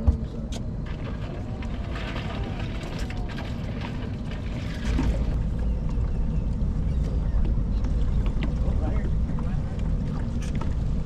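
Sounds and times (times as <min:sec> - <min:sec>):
low rumble of wind and water: 0:00.0 - 0:11.0.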